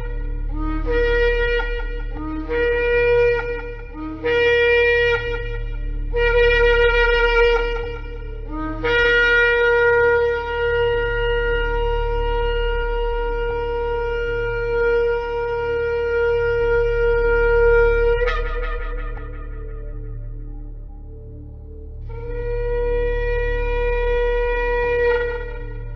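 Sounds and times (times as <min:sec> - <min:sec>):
ram's horn blasts: 0:00.0 - 0:21.1
low steady hum: 0:00.0 - 0:25.9.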